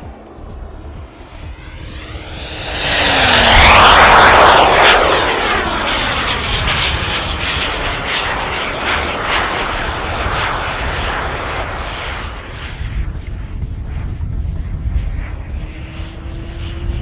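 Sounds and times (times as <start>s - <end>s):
jet turbine whine passing: 0.0s - 17.0s.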